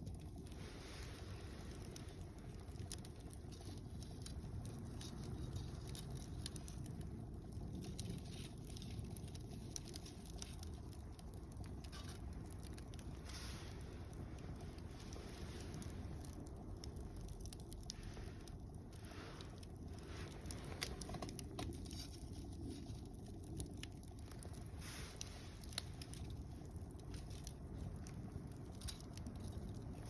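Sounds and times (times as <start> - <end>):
campfire crackling and popping: 0.0 - 30.0
low steady fire rumble: 0.0 - 30.0.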